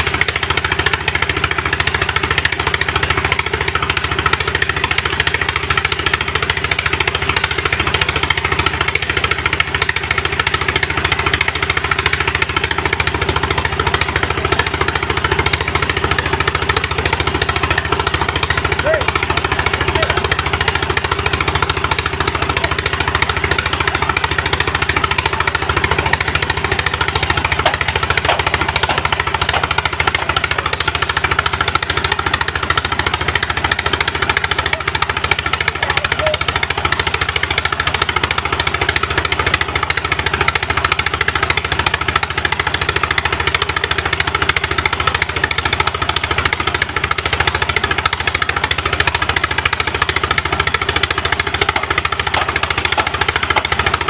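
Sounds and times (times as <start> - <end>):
pump engine chugging: 0.0 - 54.0.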